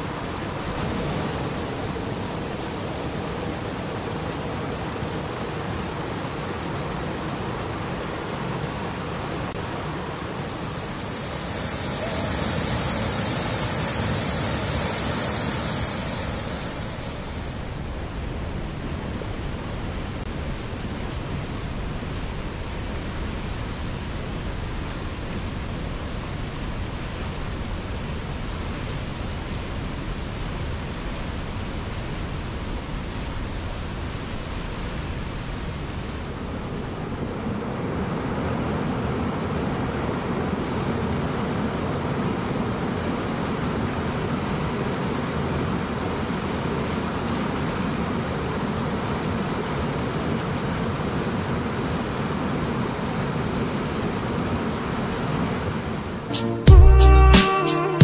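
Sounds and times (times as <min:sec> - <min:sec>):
waterfall and rapids roaring: 0:00.0 - 0:56.6.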